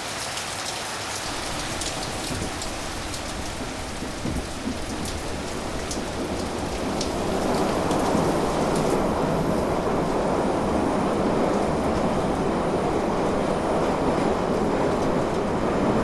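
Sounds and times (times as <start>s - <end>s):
rain drops ticking on a surface: 0.0s - 16.0s.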